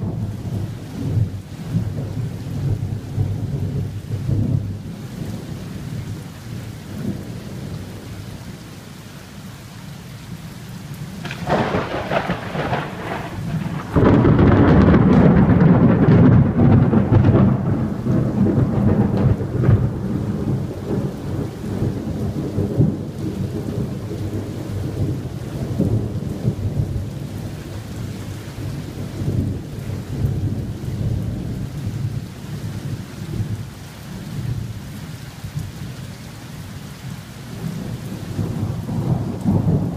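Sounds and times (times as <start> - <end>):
thunder rumbling: 0.0 - 8.1, 11.1 - 33.7, 37.6 - 39.9
steady rain: 0.0 - 39.9.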